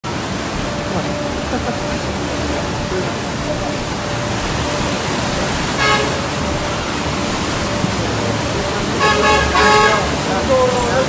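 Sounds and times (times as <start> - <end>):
floodwater rushing: 0.0 - 11.0
car horn: 0.6 - 10.9.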